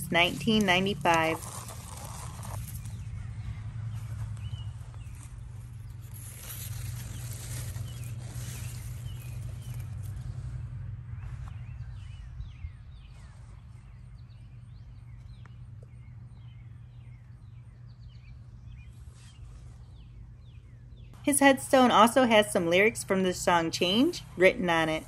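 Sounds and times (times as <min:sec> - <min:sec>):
small birds chirping: 0:00.0 - 0:10.5, 0:11.2 - 0:25.0
steady low hum: 0:00.0 - 0:25.0.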